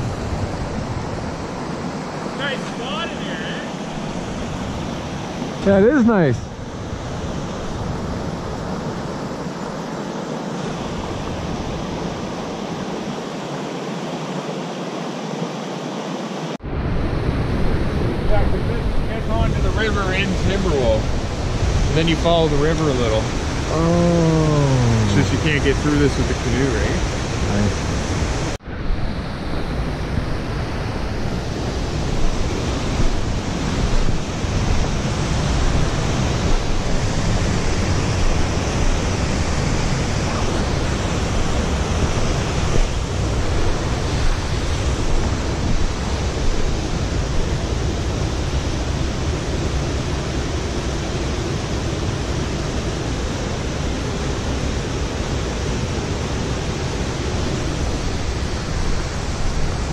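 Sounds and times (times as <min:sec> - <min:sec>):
fast-flowing water rushing: 0:00.0 - 0:59.9.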